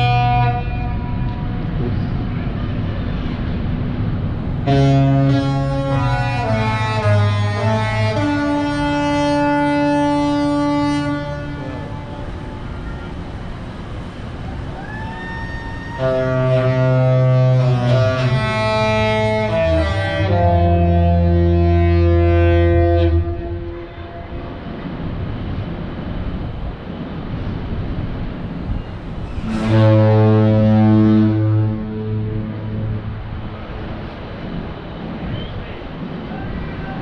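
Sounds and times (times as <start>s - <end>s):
ship horns sounding: 0.0s - 37.0s.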